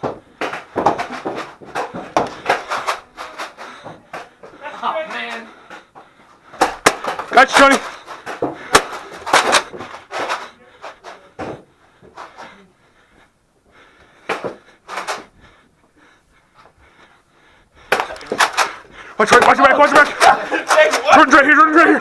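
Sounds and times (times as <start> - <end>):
person panting: 0.0 - 19.2.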